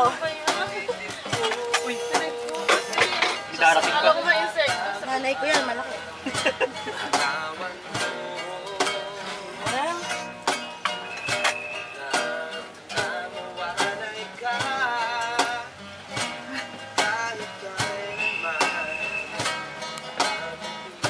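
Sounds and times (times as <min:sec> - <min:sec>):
acoustic guitars playing: 0:00.0 - 0:21.0.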